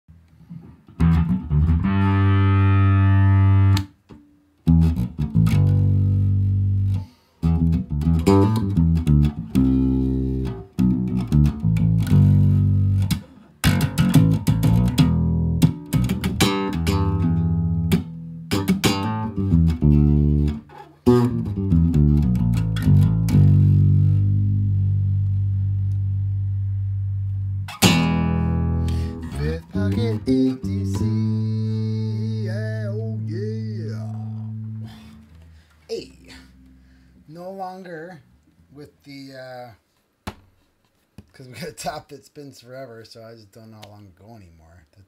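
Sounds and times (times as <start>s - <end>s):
guitar and bass music: 0.1s - 38.5s.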